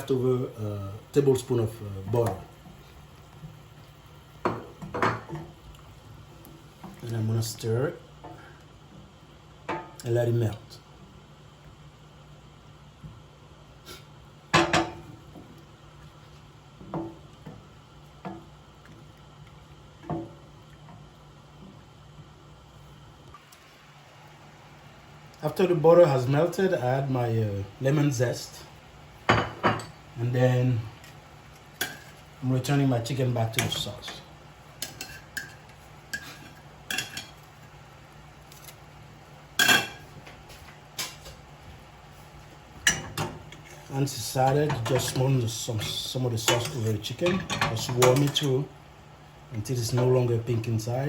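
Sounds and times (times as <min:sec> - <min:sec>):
sauce simmering: 0:00.0 - 0:09.7, 0:15.2 - 0:25.4, 0:27.0 - 0:50.1.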